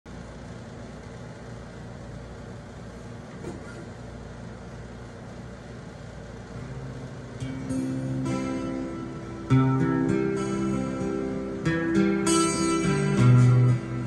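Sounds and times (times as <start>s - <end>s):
low hum with hiss: 0.1s - 14.0s.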